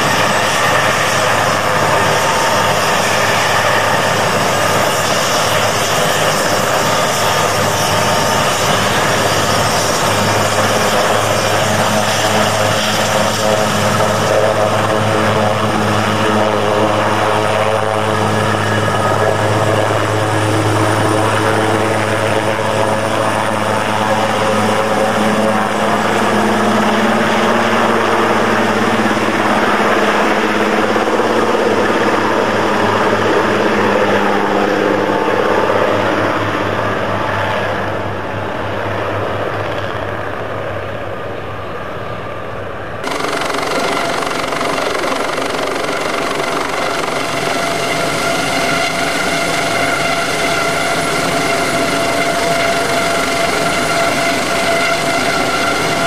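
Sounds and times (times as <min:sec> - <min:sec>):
helicopter rotor beating: 0:00.0 - 0:40.8, 0:43.0 - 0:56.0
helicopter turbine whine: 0:00.0 - 0:56.0.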